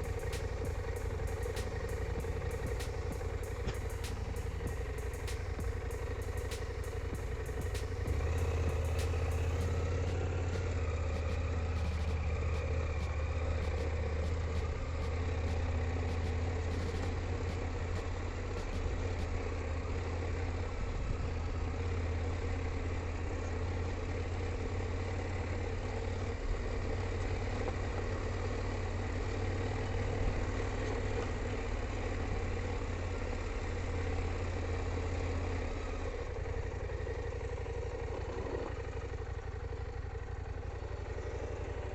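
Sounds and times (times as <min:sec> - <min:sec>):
motorcycle engine droning: 0:00.0 - 0:41.9.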